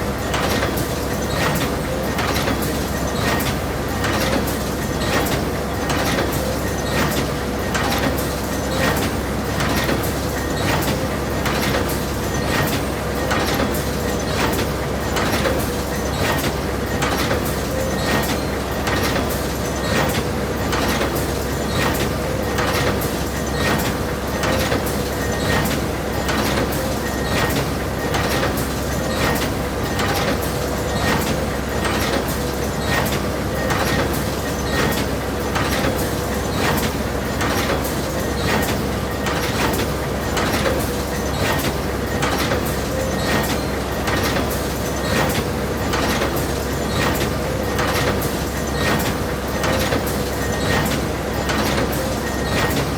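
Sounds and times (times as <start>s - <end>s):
sharp machine clacks: 0.2s - 52.9s.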